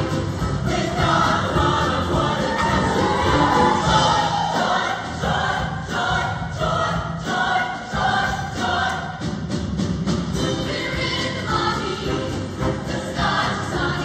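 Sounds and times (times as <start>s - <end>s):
choir singing: 0.0s - 9.3s, 10.4s - 14.0s
live backing band: 0.0s - 14.0s.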